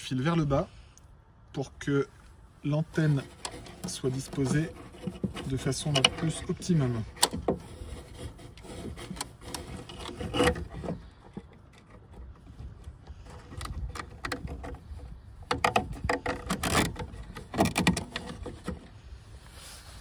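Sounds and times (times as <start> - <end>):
plastic box rubbing and knocking: 2.9 - 19.0.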